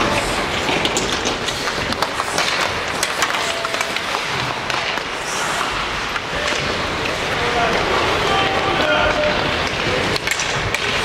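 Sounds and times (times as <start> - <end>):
hockey sticks clicking: 0.0 - 11.0
skate blades scraping ice: 0.0 - 11.0.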